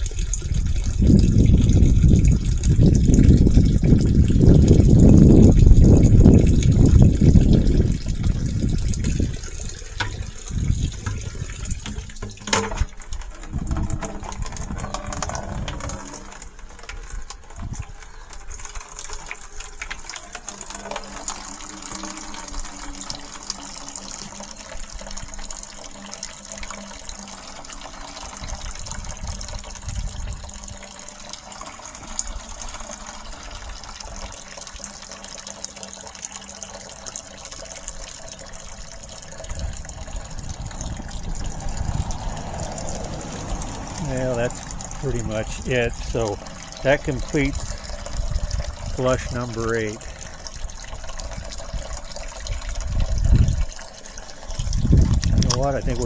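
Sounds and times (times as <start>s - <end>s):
water flowing into a bucket: 0.0s - 56.0s.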